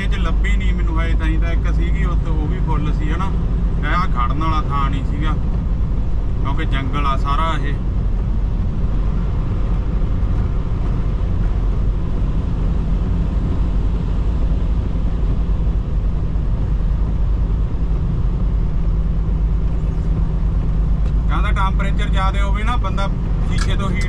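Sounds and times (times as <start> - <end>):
diesel truck engine drone: 0.0 - 24.0
road noise: 0.0 - 24.0.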